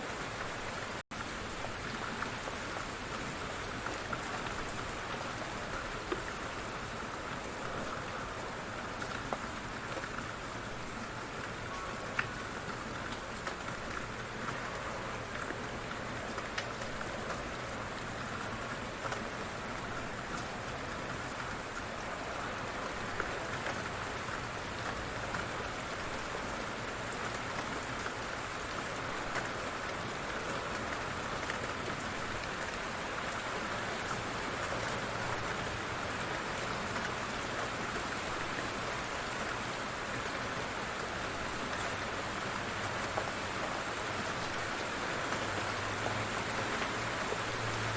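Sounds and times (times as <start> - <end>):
light rain pattering: 0.0 - 47.9.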